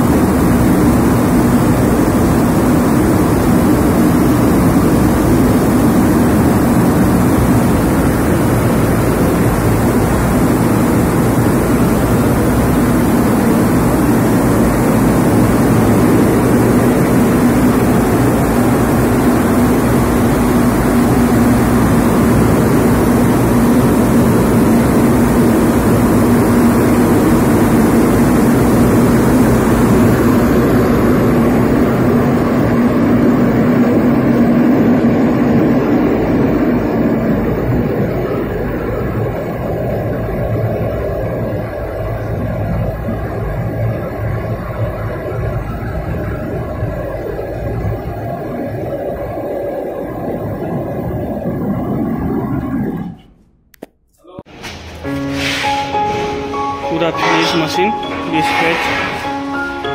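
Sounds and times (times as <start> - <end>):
machine running mechanical noise: 0.0 - 53.6
low hum: 0.0 - 53.8.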